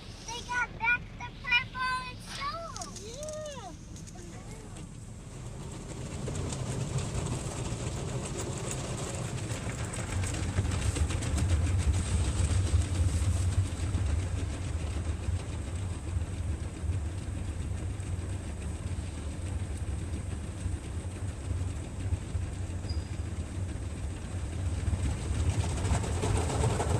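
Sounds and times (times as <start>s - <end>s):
car wash machinery rumbling: 0.0s - 26.9s.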